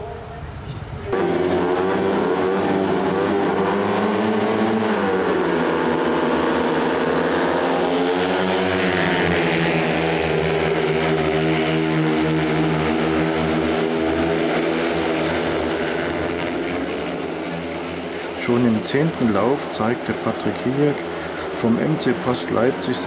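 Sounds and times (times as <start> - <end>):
motorcycle engines racing: 0.0 - 23.0.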